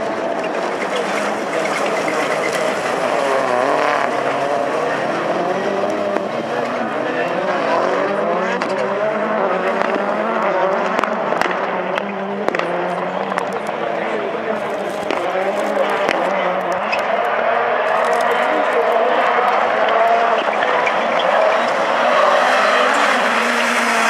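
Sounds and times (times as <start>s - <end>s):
race car engines revving: 0.0s - 24.0s.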